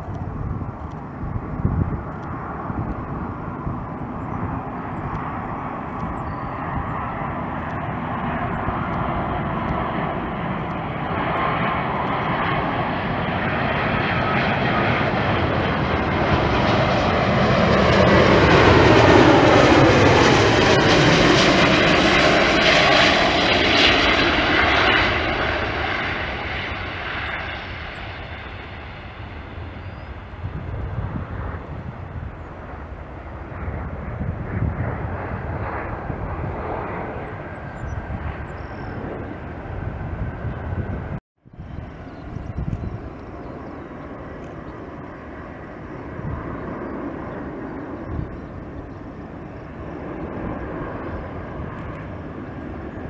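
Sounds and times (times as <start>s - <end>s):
jet airliner flying past low: 0.0s - 53.0s.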